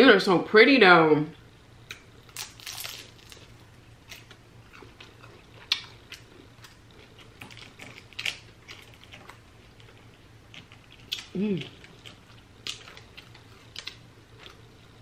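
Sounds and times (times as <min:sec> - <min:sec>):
chewing food: 0:01.9 - 0:15.0.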